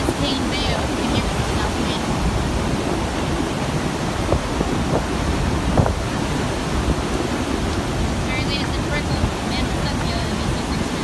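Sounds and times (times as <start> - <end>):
floodwater rushing: 0.0 - 11.0
wind buffeting microphone: 0.0 - 11.0.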